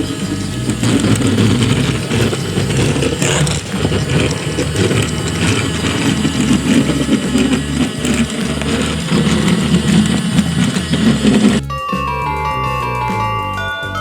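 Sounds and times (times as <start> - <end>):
toy train motor whirring: 0.0 - 11.6.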